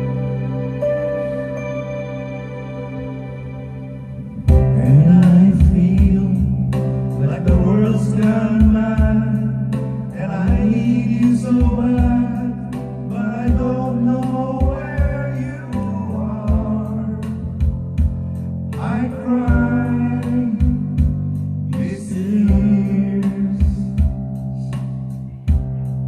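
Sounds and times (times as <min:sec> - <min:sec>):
held keyboard chord: 0:00.0 - 0:26.0
backing track with beat and guitar: 0:04.2 - 0:26.0
man singing karaoke: 0:04.4 - 0:26.0.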